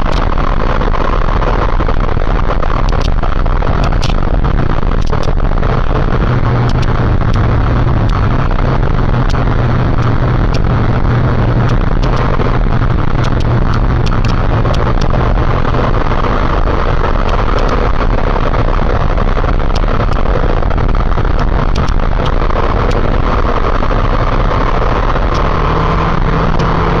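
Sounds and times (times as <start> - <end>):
small clicks: 0.0 - 0.4, 1.8 - 16.0, 17.1 - 23.2, 24.0 - 27.0
motorcycle engine drone: 0.0 - 27.0
wind rushing noise: 0.0 - 27.0.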